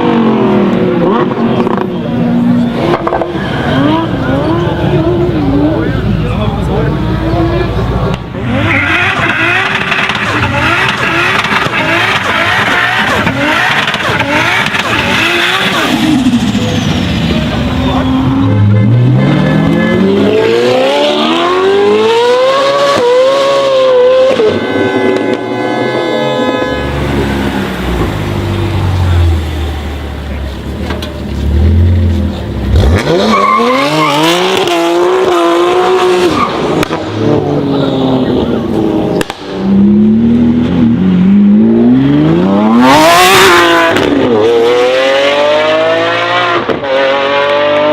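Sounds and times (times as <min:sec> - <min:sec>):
car engine revving in blips: 0:00.0 - 0:06.3, 0:08.0 - 0:47.9.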